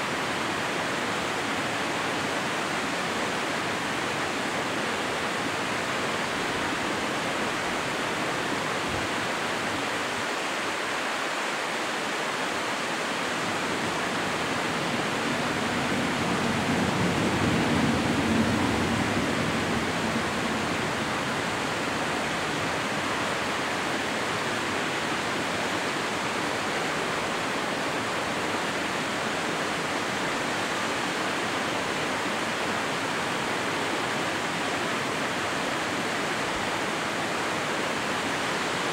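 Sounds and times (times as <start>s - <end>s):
deeper water rush: 0.0s - 38.9s
river water rushing: 0.0s - 38.9s.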